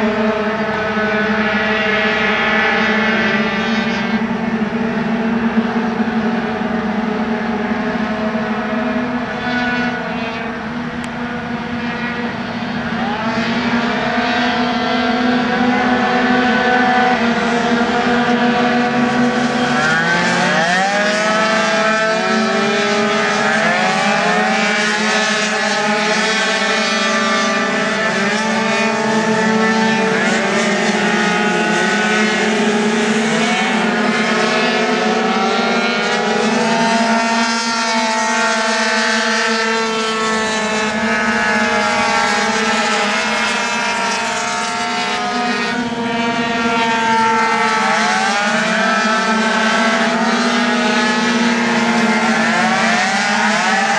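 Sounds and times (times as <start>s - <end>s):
scooter engines whining: 0.0s - 53.9s
steady low drone: 0.0s - 53.9s.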